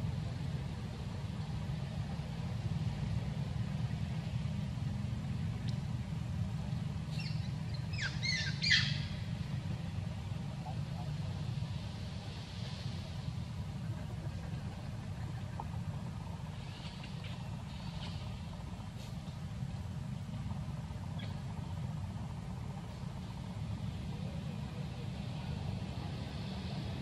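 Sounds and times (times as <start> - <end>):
low background rumble: 0.0 - 27.0.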